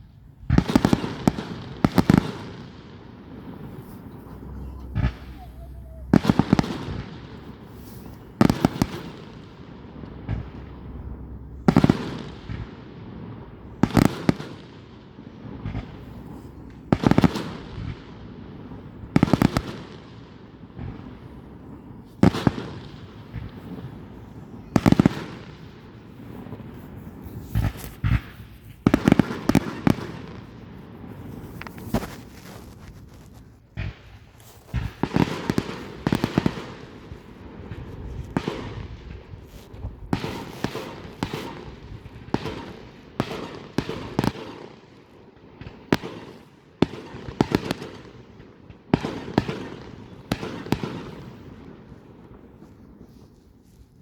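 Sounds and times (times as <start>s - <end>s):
fireworks bangs and cracks: 0.0s - 54.0s.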